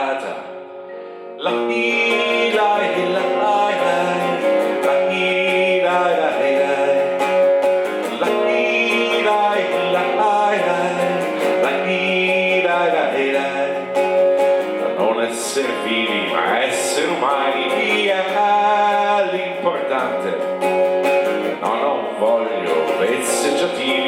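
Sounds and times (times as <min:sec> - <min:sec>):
acoustic guitar strumming: 0:00.0 - 0:24.0
person singing: 0:00.0 - 0:24.0.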